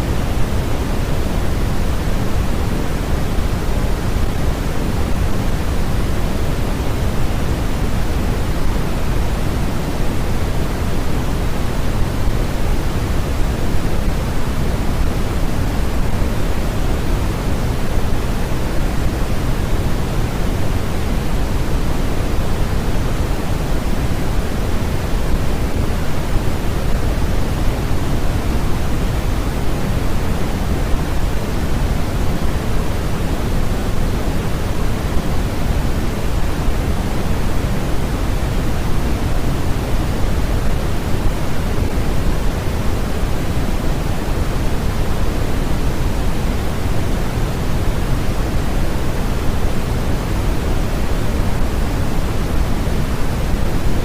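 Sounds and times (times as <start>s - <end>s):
steady pink noise hiss: 0.0s - 54.0s.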